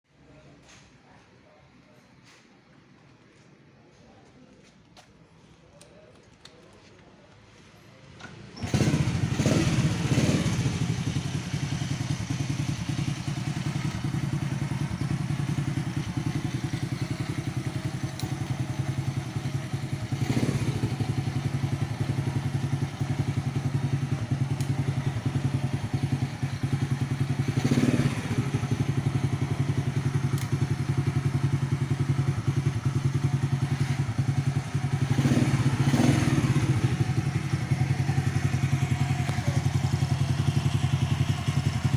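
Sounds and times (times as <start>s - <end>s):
motorcycle engine starting and idling: 8.0s - 41.9s.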